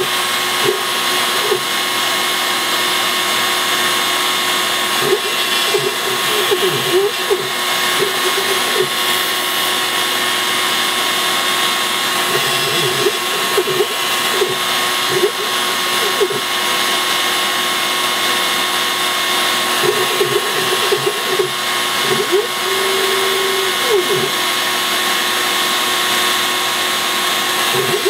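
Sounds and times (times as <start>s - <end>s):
stepper motors whirring: 0.0s - 2.4s, 3.0s - 17.3s, 18.8s - 24.8s, 27.5s - 28.0s
router spindle whine and hiss: 0.0s - 28.0s.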